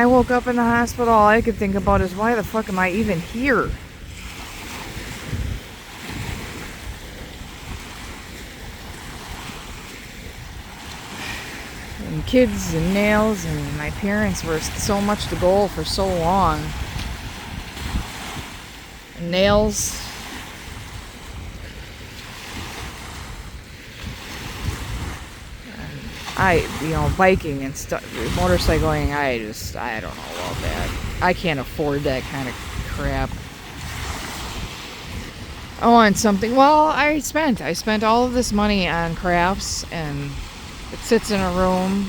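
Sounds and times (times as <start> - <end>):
waves washing on shore: 0.0 - 42.0
wind buffeting microphone: 0.0 - 42.0.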